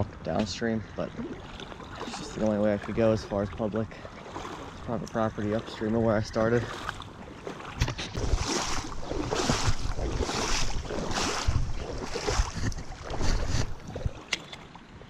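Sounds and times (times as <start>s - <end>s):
wading splashes in a stream: 0.2s - 15.0s.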